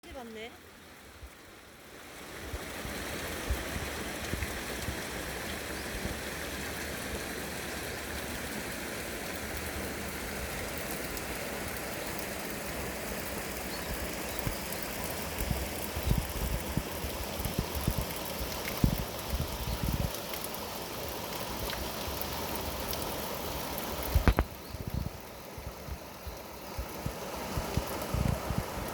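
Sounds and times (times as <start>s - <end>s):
stream water running over rocks: 0.0s - 28.9s.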